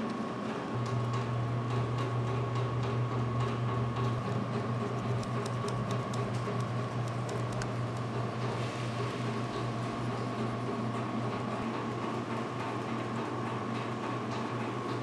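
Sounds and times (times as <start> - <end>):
electrical room hum: 0.0 - 15.0.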